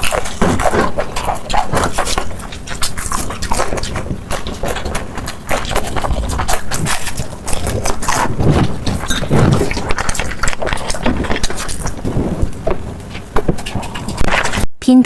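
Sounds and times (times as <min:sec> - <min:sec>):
chewing fried food crunches: 0:00.0 - 0:14.6
wet mouth clicks: 0:00.0 - 0:14.6.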